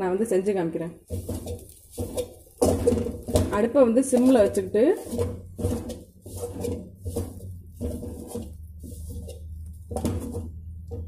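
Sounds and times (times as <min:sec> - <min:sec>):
steel tumbler pounding in metal pan: 0:01.0 - 0:11.0.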